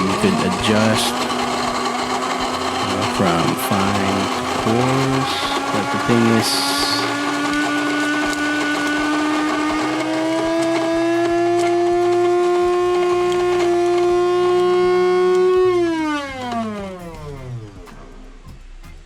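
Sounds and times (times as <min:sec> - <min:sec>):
coffee grinder motor whining: 0:00.0 - 0:18.5.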